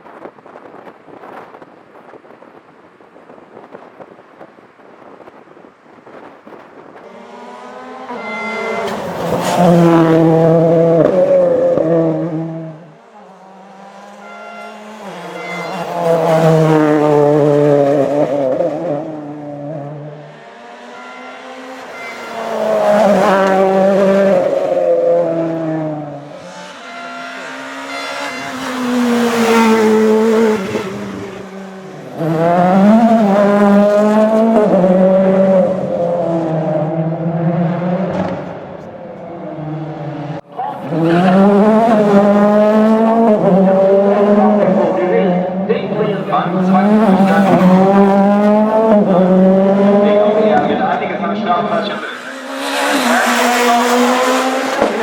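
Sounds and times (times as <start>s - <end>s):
rally cars passing at speed: 0.0s - 55.0s.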